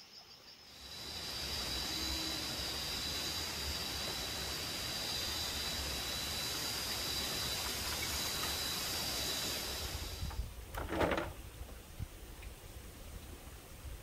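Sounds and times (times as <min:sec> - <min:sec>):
insect chorus: 0:00.0 - 0:11.5
steady hiss: 0:00.0 - 0:14.0.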